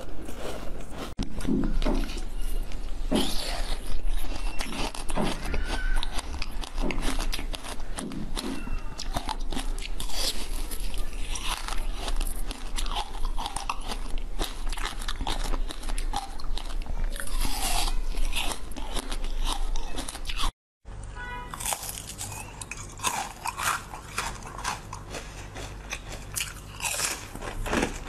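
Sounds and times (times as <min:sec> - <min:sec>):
person chewing crunchy food: 0:00.0 - 0:20.6, 0:21.5 - 0:28.0.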